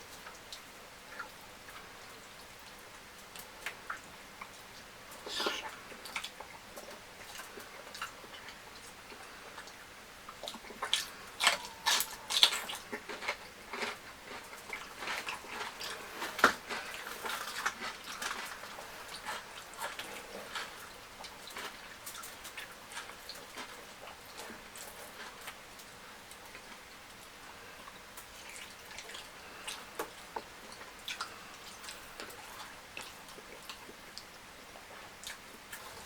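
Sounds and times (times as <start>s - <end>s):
person chewing food: 3.6s - 36.0s.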